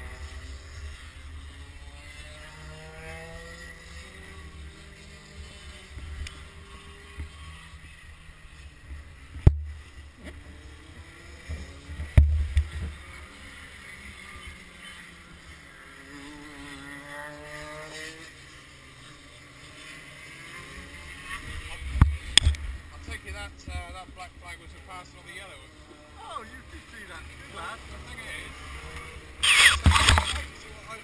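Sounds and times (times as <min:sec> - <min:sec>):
distant kart engines revving: 0:00.0 - 0:31.0.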